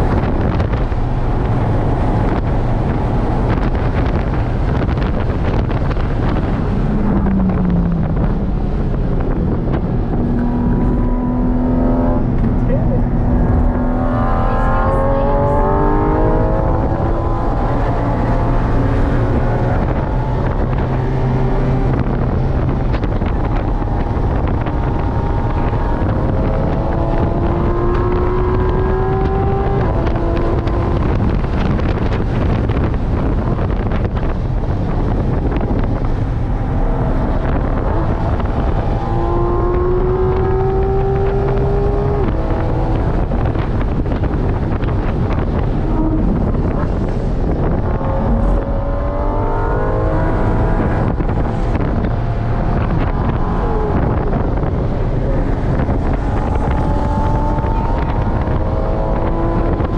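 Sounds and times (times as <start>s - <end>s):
car engine accelerating: 0.0s - 59.9s
road noise: 0.0s - 59.9s
wind noise: 0.0s - 59.9s.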